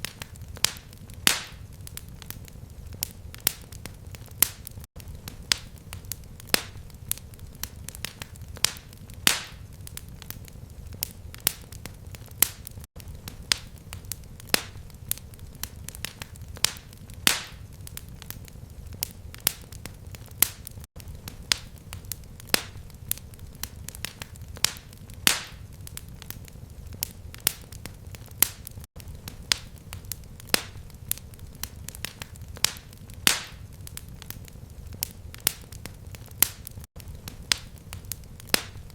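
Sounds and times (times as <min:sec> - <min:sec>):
fire crackling: 0:00.0 - 0:38.9.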